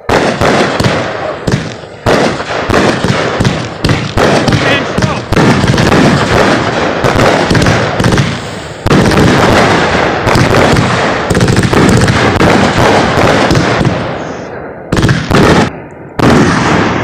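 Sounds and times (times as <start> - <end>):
fireworks booming overhead: 0.0 - 17.0.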